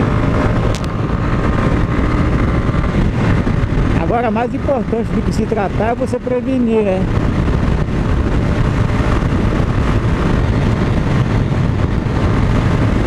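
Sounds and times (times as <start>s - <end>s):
motorcycle engine drone: 0.0s - 13.0s
wind rush: 0.0s - 13.0s.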